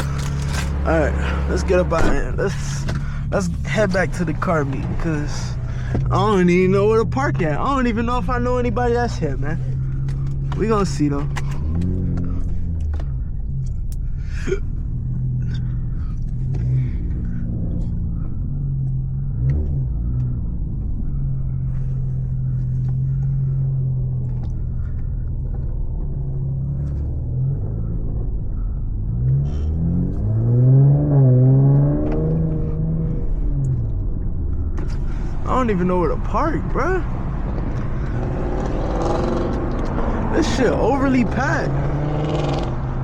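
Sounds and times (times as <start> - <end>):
car engine and exhaust droning: 0.0 - 43.0.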